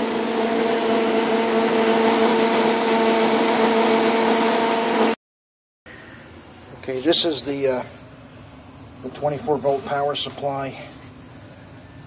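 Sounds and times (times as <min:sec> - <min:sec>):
machine hum with held tones: 0:00.0 - 0:05.2, 0:05.9 - 0:12.0.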